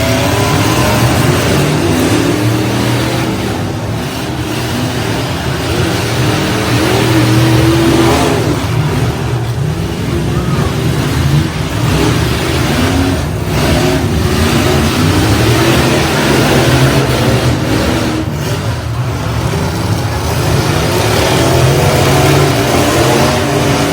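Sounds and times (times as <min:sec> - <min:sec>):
truck engines revving: 0:00.0 - 0:23.9.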